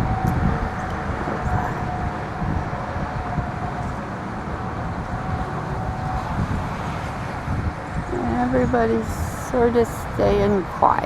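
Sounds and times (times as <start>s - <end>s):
faint steady hum: 0.0s - 11.0s
wind buffeting microphone: 0.0s - 11.0s.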